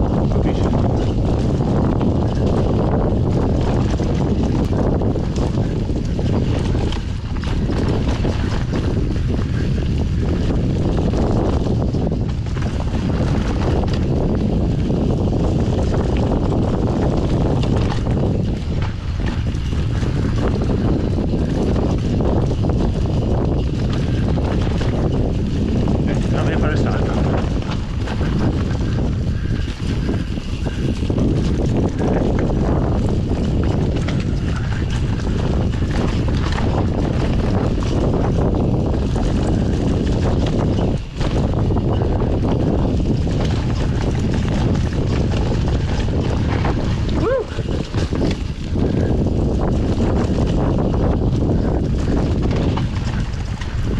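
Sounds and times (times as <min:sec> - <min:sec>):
bike rattling: 0:00.0 - 0:53.9
mountain bike rolling on dirt: 0:00.0 - 0:53.9
wind buffeting microphone: 0:00.0 - 0:53.9.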